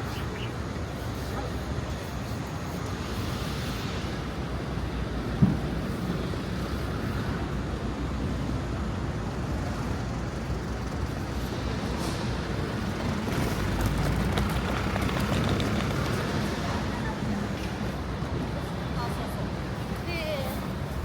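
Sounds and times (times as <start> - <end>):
rumble of passing vehicles: 0.0 - 21.0.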